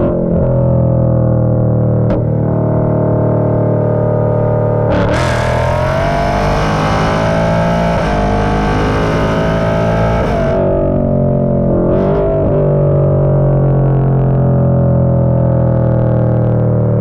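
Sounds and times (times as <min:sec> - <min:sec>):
rock music with distorted guitar: 0:00.0 - 0:13.9
car engine exhaust while driving: 0:00.0 - 0:17.0.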